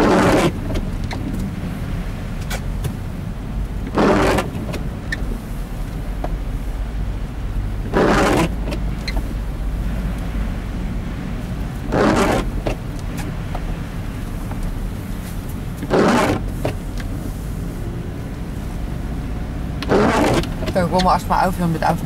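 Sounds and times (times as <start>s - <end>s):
car engine and tyre rumble: 0.0s - 22.0s
windscreen wipers swishing: 0.0s - 22.0s.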